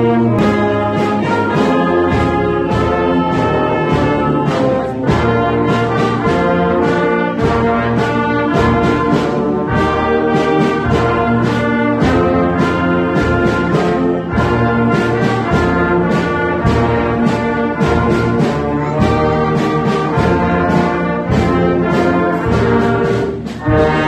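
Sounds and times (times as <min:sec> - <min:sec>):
sharp percussion hits: 0:00.0 - 0:24.0
wind band playing chords: 0:00.0 - 0:24.0.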